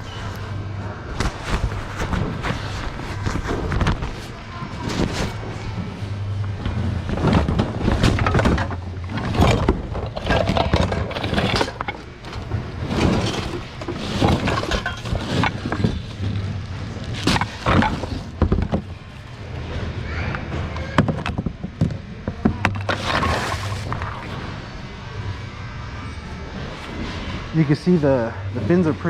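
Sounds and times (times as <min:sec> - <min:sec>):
low hum: 0:00.0 - 0:29.0
objects clattering and rustling: 0:00.0 - 0:29.0.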